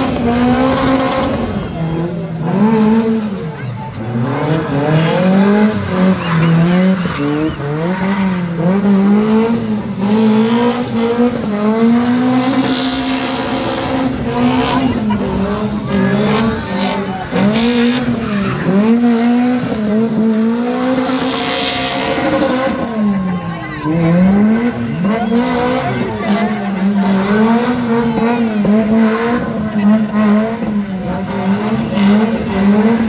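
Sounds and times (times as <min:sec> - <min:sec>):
engine revving high: 0:00.0 - 0:33.0.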